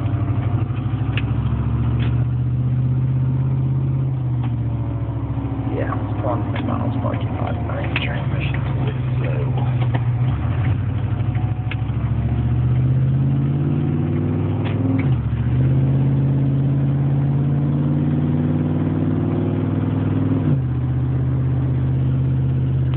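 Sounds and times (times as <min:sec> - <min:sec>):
car engine revving with knock: 0:00.0 - 0:22.9.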